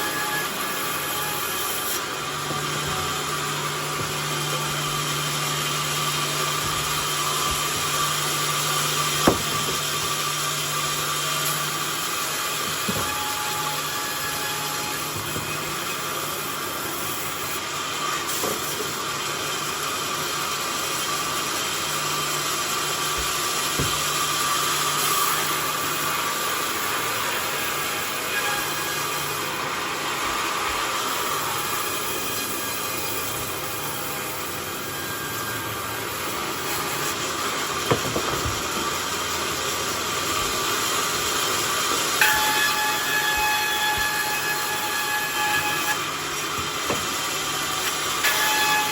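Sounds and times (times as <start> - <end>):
sawmill sawing a log: 0.0 - 48.9.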